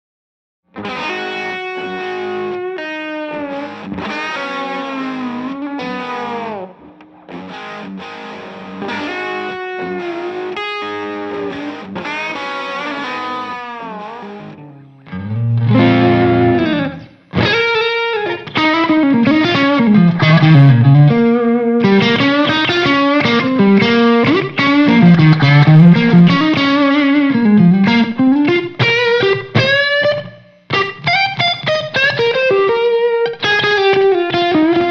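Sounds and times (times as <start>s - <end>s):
fuzz-distorted electric guitar: 0.7s - 34.9s.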